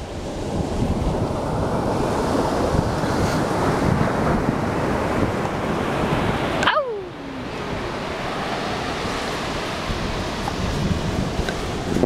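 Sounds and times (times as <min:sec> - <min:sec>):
ocean surf breaking: 0:00.0 - 0:12.0
wind rumbling on microphone: 0:00.0 - 0:12.0.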